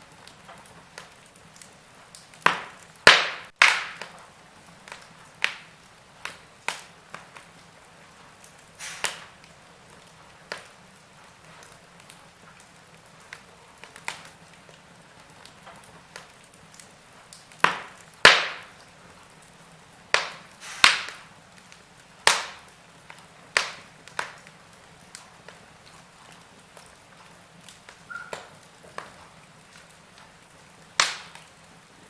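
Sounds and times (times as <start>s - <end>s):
burning wood popping: 0.0s - 32.0s
faint steady hiss: 0.0s - 32.0s
wood fire crackling: 0.0s - 32.0s.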